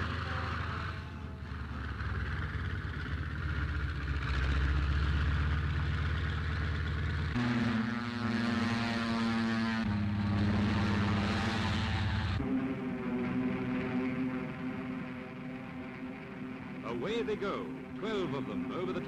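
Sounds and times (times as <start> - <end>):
aircraft piston engine rumbling: 0.0 - 19.0.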